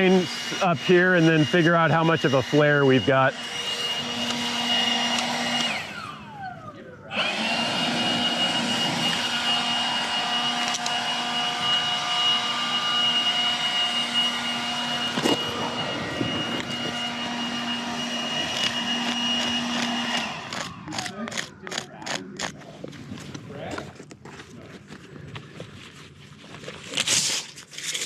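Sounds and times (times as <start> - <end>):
machine drone with high whine: 0.0 - 23.4.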